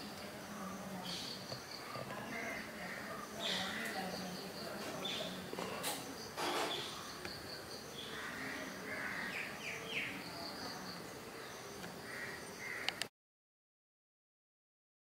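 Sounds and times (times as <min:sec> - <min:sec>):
birds chirping: 0:00.0 - 0:13.1
outdoor background hiss: 0:00.0 - 0:13.1.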